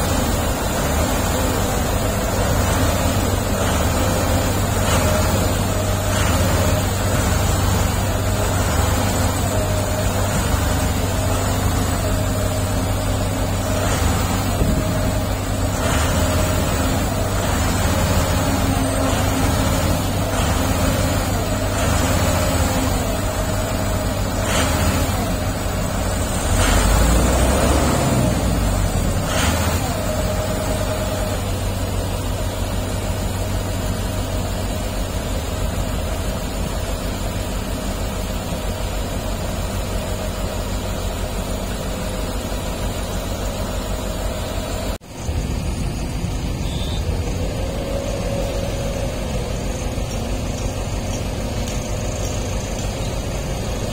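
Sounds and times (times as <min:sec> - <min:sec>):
diesel machinery rumbling: 0:00.0 - 0:53.9.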